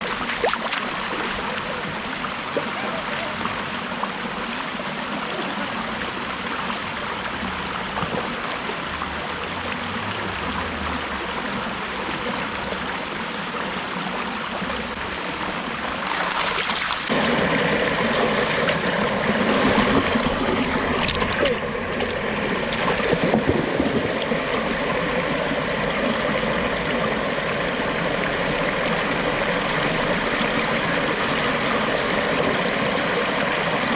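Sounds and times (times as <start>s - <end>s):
brook water trickling: 0.0s - 33.9s.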